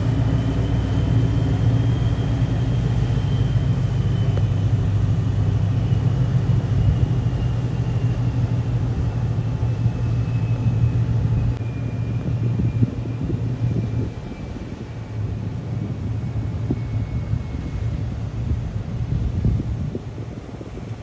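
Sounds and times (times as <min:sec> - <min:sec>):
boat engines droning: 0:00.0 - 0:21.0
high engine whine: 0:00.0 - 0:21.0.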